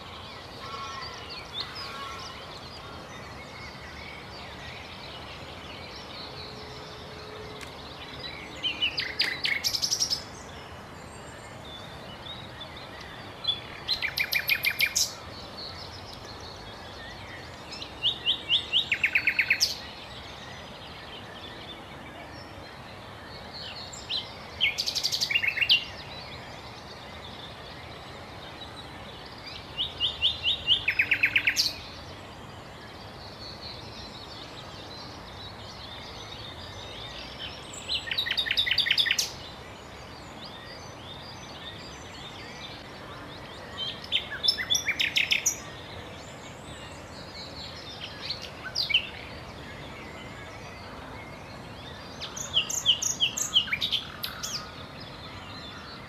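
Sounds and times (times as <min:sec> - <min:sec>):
outdoor background hiss: 0:00.0 - 0:56.0
songbird singing: 0:00.0 - 0:56.0.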